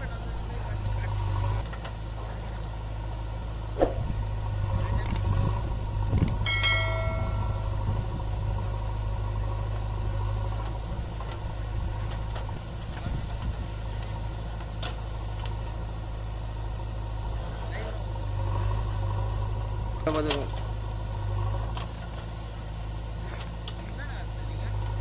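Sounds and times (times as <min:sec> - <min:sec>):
diesel engines running: 0:00.0 - 0:25.0.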